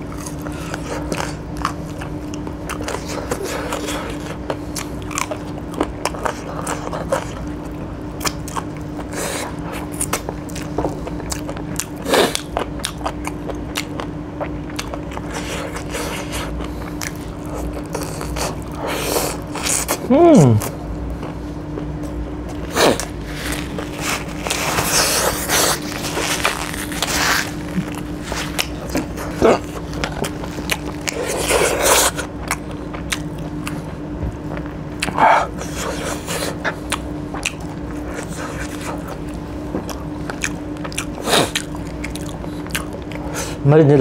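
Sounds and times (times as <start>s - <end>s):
wet chewing and crunching: 0.0s - 43.6s
faint hum: 0.0s - 44.0s.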